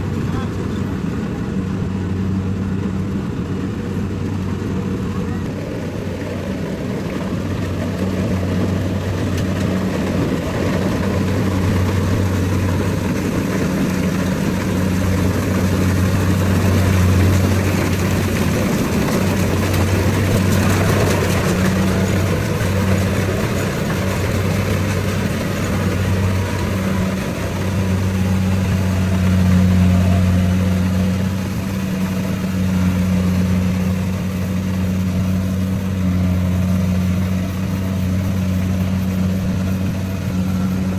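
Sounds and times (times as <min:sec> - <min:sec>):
combine harvester engine droning: 0:00.0 - 0:40.9.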